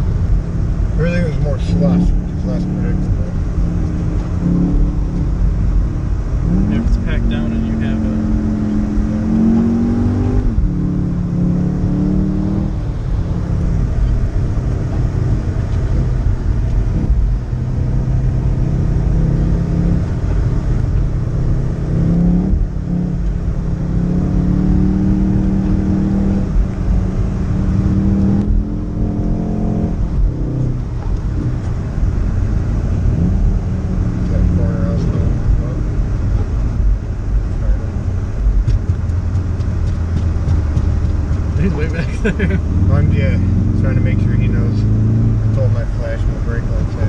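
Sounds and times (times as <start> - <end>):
car engine accelerating: 0.0 - 47.0
road and tyre rumble: 0.0 - 47.0.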